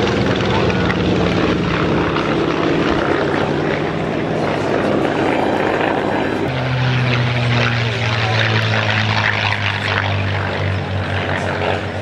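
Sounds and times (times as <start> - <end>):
propeller planes flying past: 0.0 - 12.0.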